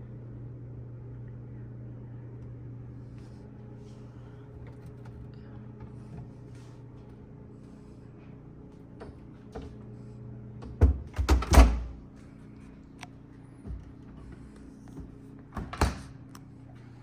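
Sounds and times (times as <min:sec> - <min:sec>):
refrigerator electrical hum: 0:00.0 - 0:17.0.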